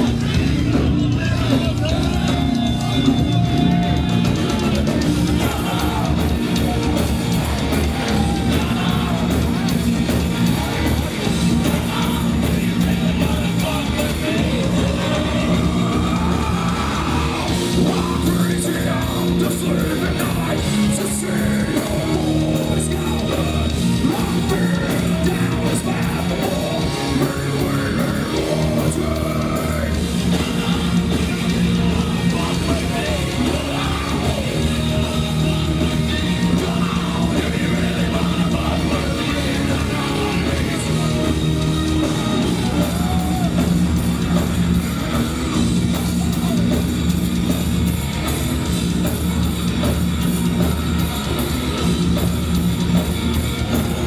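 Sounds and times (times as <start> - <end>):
live heavy metal band: 0.0 - 54.0.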